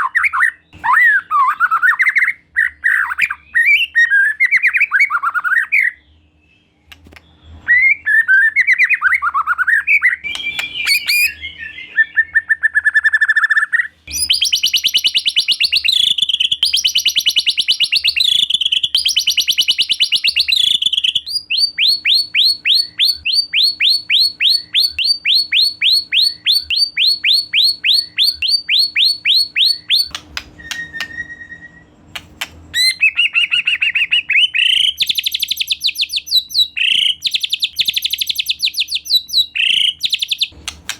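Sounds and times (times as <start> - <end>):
bird singing whistled phrases: 0.0 - 6.7, 7.6 - 31.9, 32.7 - 40.6.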